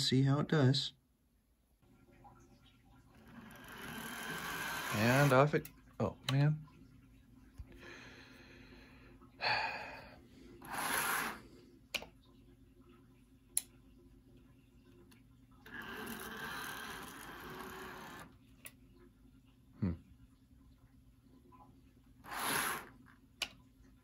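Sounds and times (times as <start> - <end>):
faint motor whir: 2.0 - 9.4, 10.1 - 19.6, 20.8 - 24.0.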